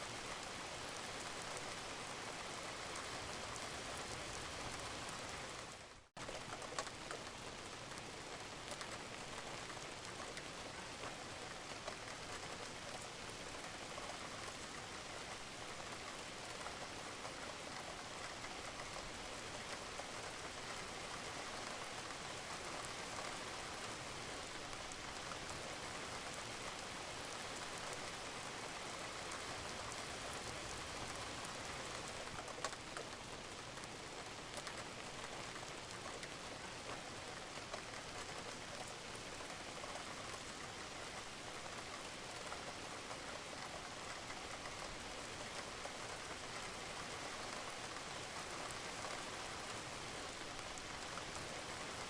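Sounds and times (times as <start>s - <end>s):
rain falling on a roof: 0.0s - 52.0s.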